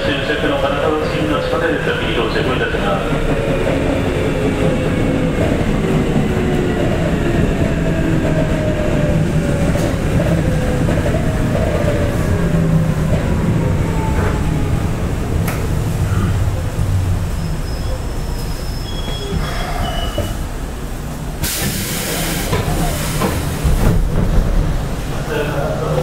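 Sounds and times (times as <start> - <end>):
wheels rumbling on rail: 0.0 - 26.0.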